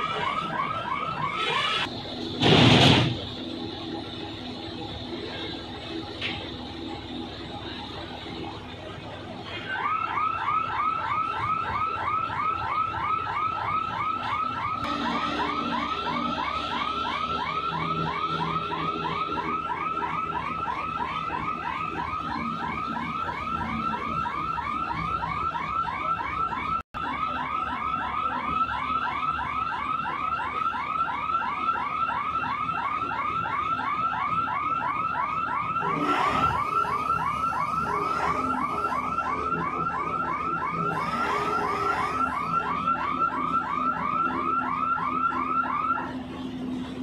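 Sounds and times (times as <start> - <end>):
crane warning alarm chirping: 0.0 - 2.4, 3.0 - 47.0
crane engine running: 0.0 - 47.0.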